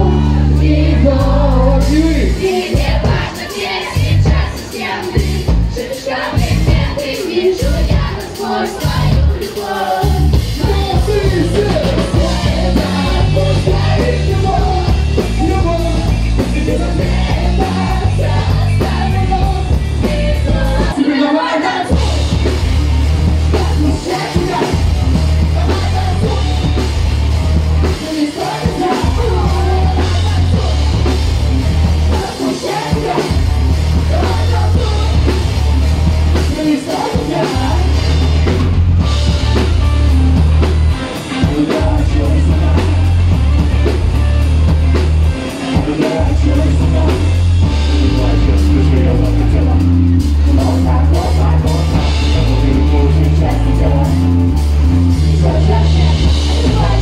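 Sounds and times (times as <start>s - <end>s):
heavy bass beat: 0.0s - 21.0s, 21.9s - 57.0s
drum kit: 0.0s - 57.0s.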